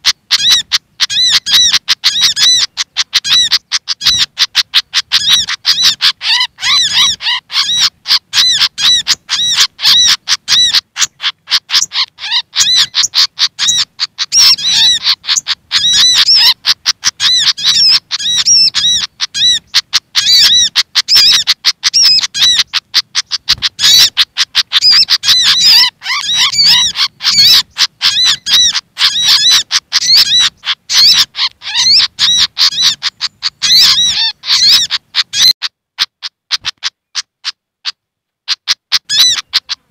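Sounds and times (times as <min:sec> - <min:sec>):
birds chattering with high chirps: 0:00.0 - 0:39.9.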